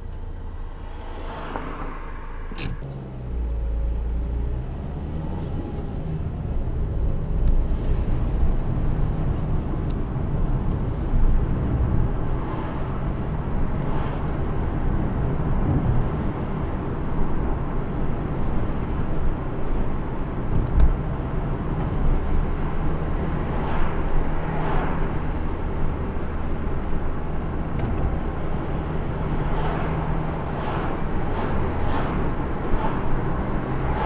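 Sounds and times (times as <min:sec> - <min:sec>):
car engine hum: 0:00.0 - 0:34.0
passing traffic whooshes: 0:00.0 - 0:34.0.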